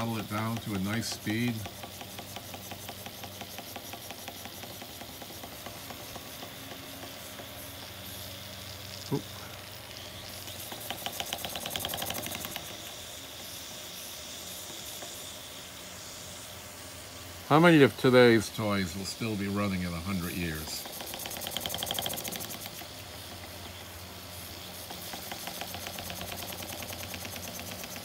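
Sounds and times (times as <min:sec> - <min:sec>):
steam hissing: 0:00.0 - 0:28.0
toy steam engine chuffing: 0:00.0 - 0:28.0.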